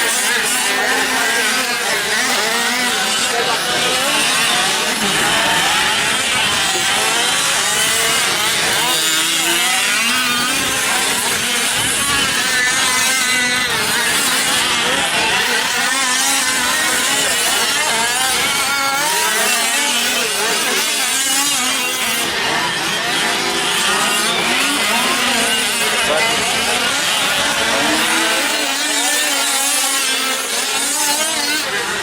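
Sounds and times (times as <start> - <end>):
small two-stroke engines revving: 0.0 - 32.0.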